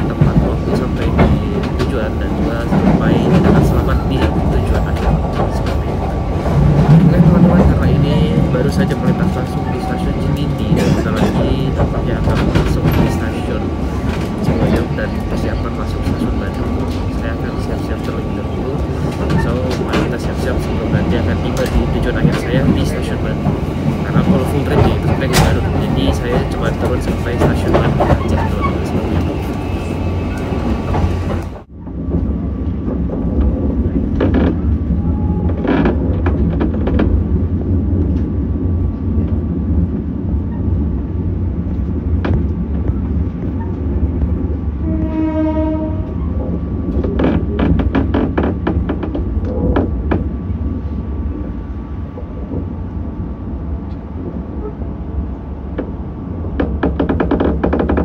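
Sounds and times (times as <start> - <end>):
rail clicks: 0.0 - 58.0
train rumbling on rails: 0.0 - 58.0.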